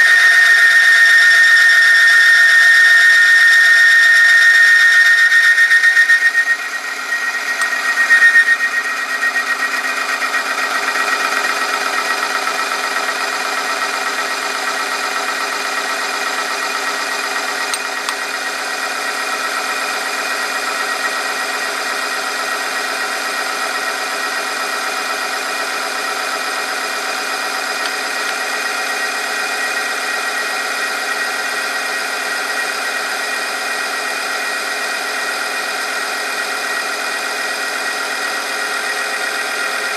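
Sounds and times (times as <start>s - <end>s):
electric motor hum with whine: 0.0s - 39.9s.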